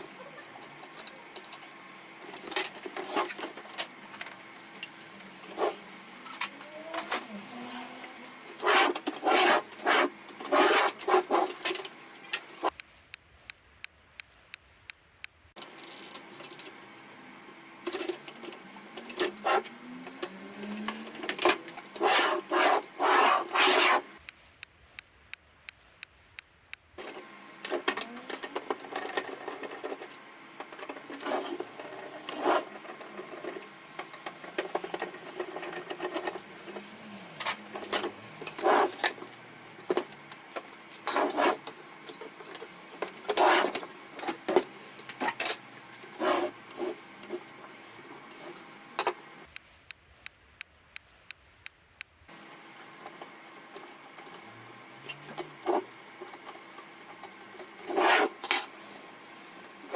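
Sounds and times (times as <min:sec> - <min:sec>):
printer motor and gears: 0:00.0 - 0:12.8, 0:15.6 - 0:24.3, 0:27.0 - 0:49.6, 0:52.3 - 0:59.9.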